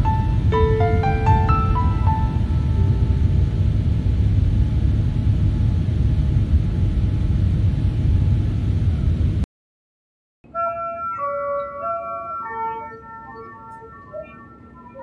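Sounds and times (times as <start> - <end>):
airliner engines and airflow rumble: 0.0 - 9.4, 11.2 - 15.0.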